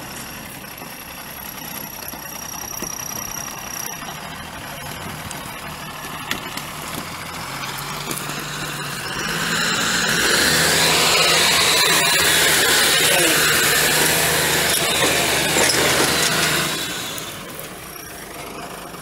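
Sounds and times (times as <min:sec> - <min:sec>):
diesel truck engine running: 0:00.0 - 0:19.0
tyres on gravel: 0:00.0 - 0:19.0.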